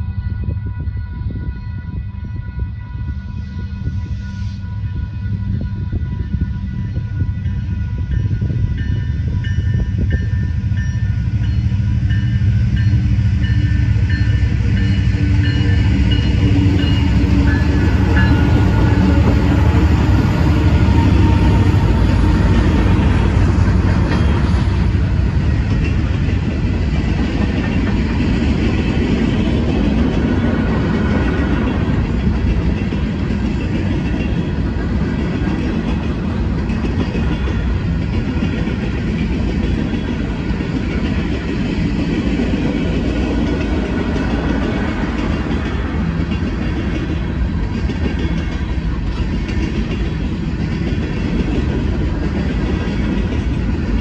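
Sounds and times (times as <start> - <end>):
diesel locomotive passing: 0.0 - 54.0
freight train wheels on rails: 0.0 - 54.0.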